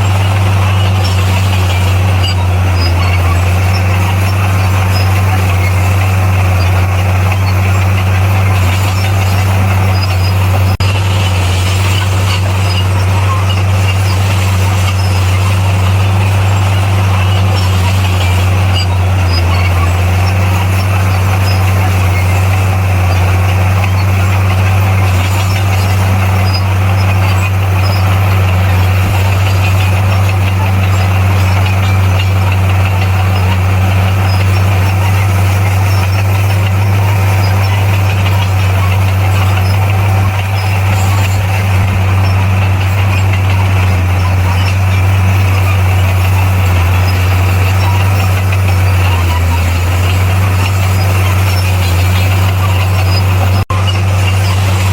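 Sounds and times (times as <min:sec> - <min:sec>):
bulldozer diesel engine drone: 0:00.0 - 0:54.9.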